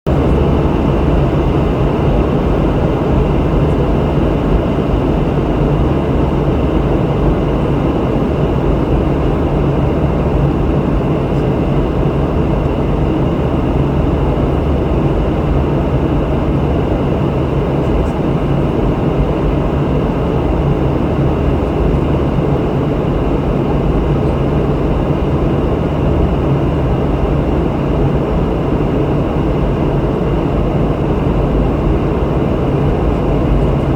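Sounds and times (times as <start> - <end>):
aircraft cabin rumble: 0.1 - 33.9.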